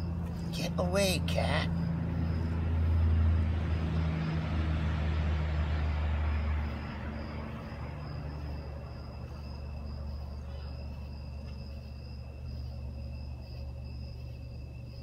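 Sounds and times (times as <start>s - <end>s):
insects trilling: 0.0s - 15.0s
low hum: 0.0s - 15.0s
vehicle passing by: 0.0s - 15.0s.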